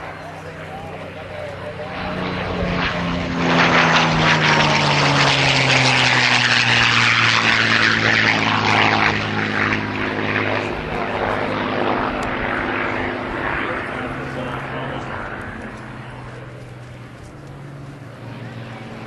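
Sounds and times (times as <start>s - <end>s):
propeller plane engine flyby: 0.0s - 19.0s.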